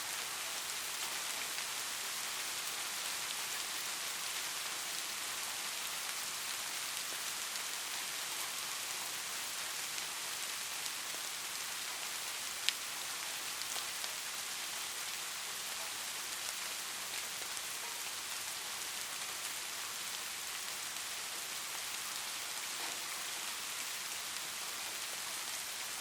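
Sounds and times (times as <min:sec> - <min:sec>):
light rain hissing: 0:00.0 - 0:26.0.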